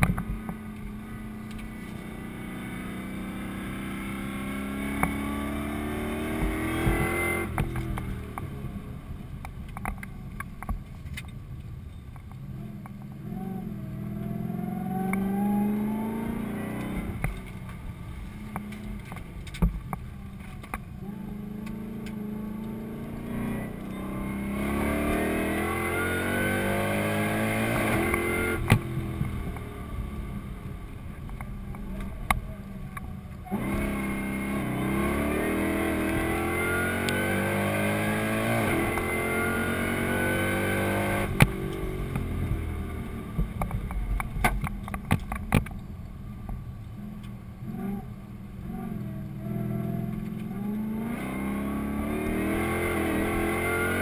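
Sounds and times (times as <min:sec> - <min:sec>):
car engine revving: 0:00.0 - 0:10.7, 0:12.5 - 0:45.6, 0:47.2 - 0:54.0.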